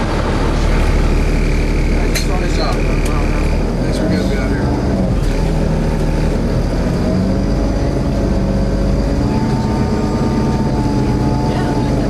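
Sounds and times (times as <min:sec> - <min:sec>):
engine rumble with held tones: 0:00.0 - 0:12.0.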